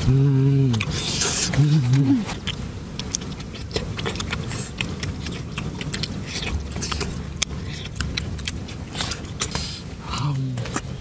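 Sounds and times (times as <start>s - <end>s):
low hum: 0.0s - 11.0s
person chewing and lip smacking: 0.0s - 11.0s.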